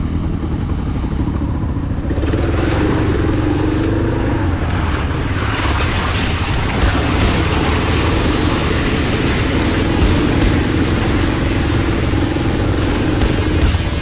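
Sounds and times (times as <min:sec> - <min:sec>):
motorcycle engine running: 0:00.0 - 0:14.0
rushing noise: 0:01.5 - 0:14.0.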